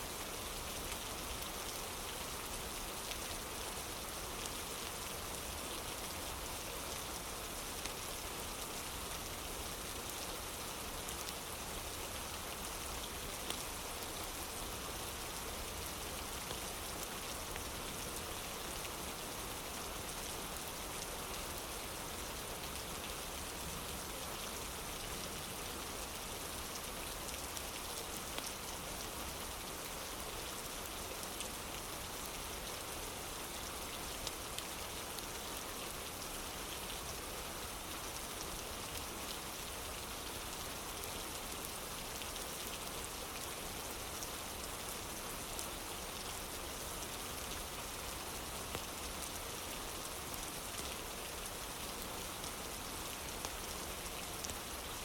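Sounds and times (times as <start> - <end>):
rain on a wooden porch: 0.0 - 55.0.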